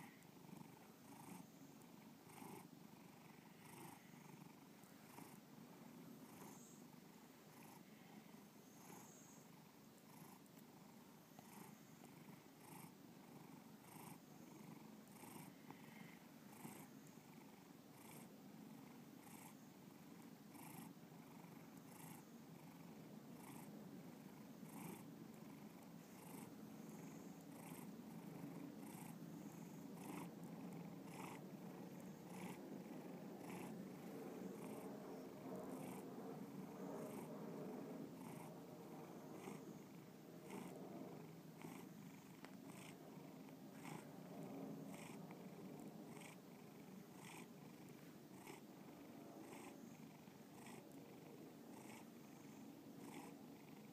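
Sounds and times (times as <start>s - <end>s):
cat purring: 0.0s - 53.9s.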